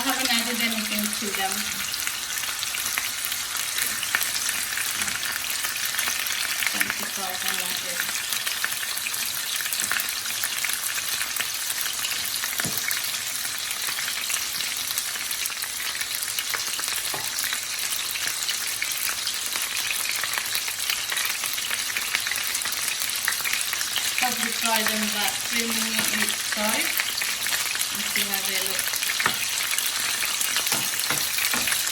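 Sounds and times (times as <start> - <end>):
chicken sizzling in hot oil: 0.0 - 31.9.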